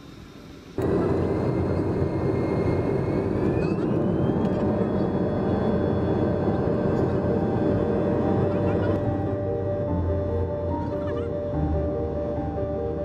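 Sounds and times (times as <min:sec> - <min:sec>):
jet engine rumble: 0:00.0 - 0:13.0
rising jet engine whine: 0:00.0 - 0:13.0.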